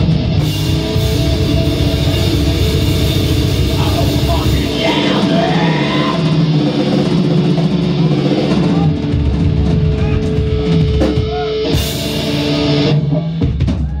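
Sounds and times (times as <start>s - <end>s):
bass guitar: 0.0s - 14.0s
distorted electric guitar: 0.0s - 14.0s
drum kit: 0.0s - 14.0s.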